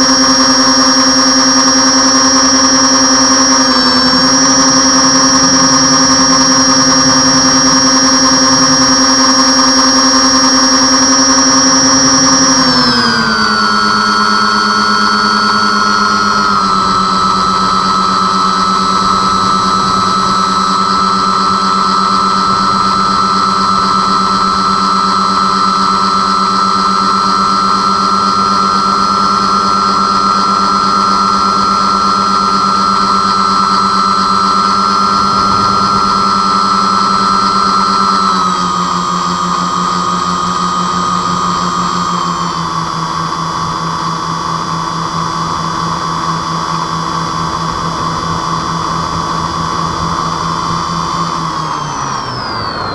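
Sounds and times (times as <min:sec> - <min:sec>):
rc airplane motors whining: 0:00.0 - 0:52.9.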